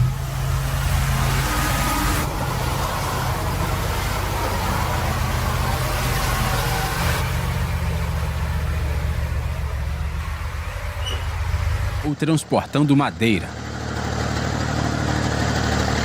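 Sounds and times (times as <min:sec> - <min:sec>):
heavy truck engine running: 0:00.0 - 0:16.0.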